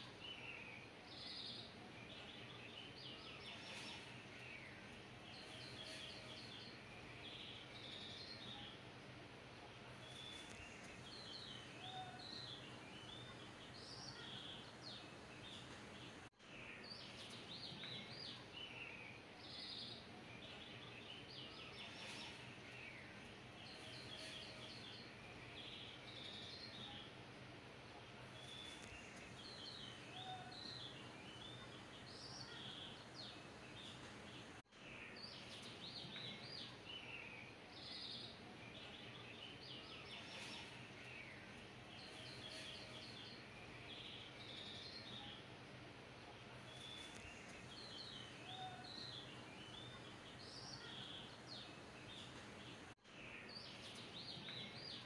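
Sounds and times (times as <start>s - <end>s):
small birds chirping: 0.0s - 55.0s
steady low hiss: 0.0s - 55.0s.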